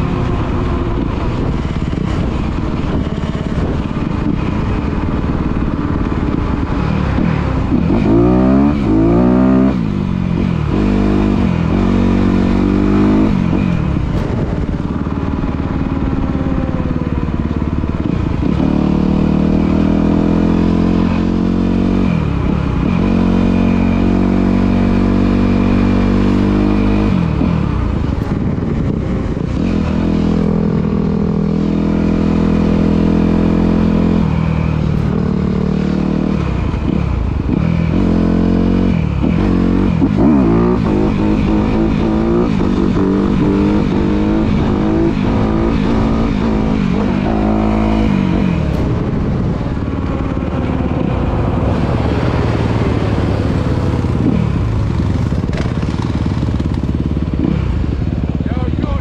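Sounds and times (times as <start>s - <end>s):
dirt bike engine running hard: 0.0s - 59.0s.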